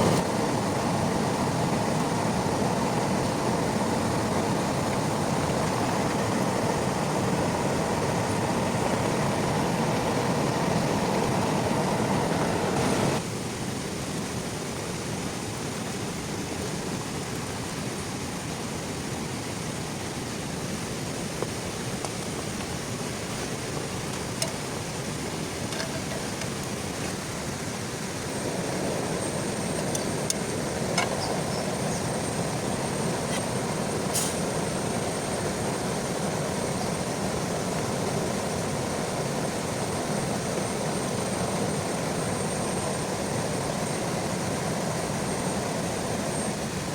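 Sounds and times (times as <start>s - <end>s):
heavy rain hissing: 0.0s - 46.9s.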